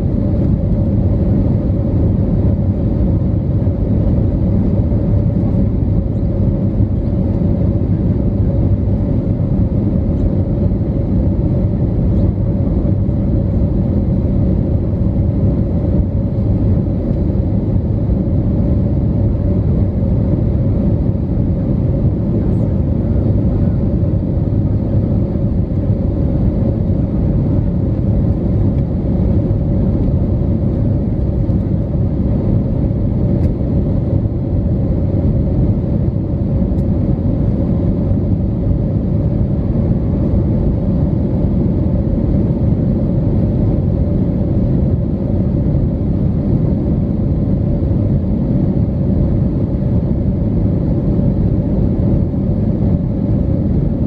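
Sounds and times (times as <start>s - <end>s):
airplane cabin drone: 0.0s - 54.0s.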